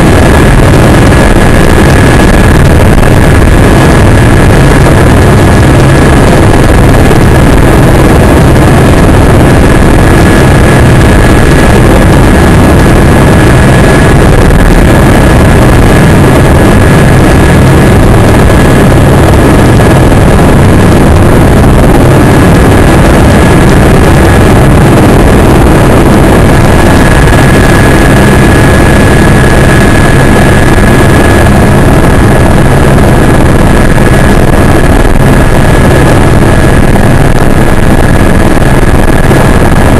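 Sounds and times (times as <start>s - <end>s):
helicopter engine and rotor: 0.0s - 39.9s
high turbine whine: 0.0s - 39.9s.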